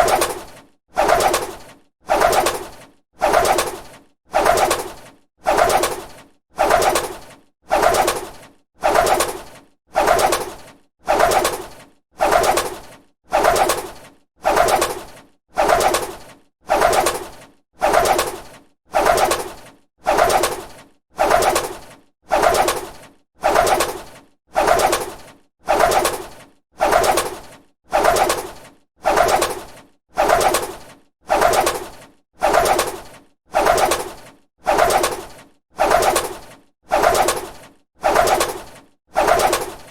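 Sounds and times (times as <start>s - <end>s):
bird wings flapping: 0.0s - 39.9s.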